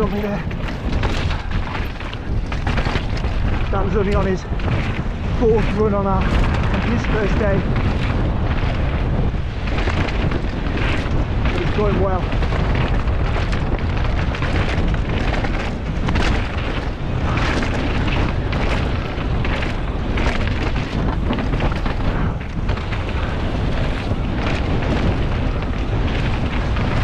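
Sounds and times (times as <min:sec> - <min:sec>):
bike rattling over rocky trail: 0:00.0 - 0:27.0
wind buffeting microphone: 0:00.0 - 0:27.0.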